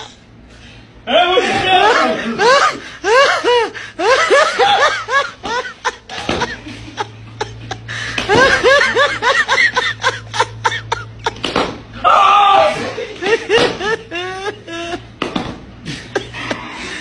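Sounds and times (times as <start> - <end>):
men laughing hard: 1.1 - 17.0.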